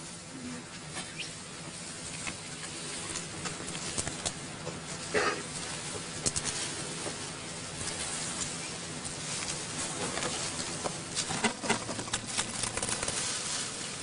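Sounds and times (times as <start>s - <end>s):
dry leaves crackling and rustling: 1.8s - 14.0s.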